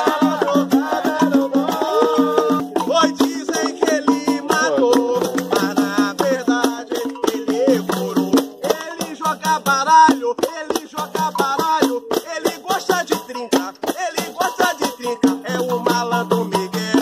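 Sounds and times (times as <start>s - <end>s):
hand drum beating: 0.0s - 17.0s
shaker rattling: 0.0s - 17.0s
voices singing: 0.0s - 17.0s.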